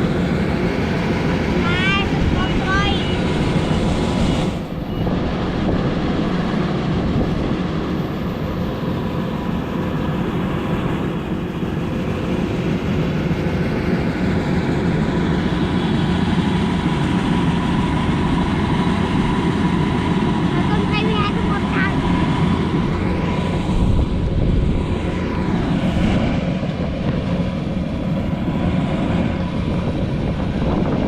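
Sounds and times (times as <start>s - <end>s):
heavy engine running: 0.0s - 31.0s.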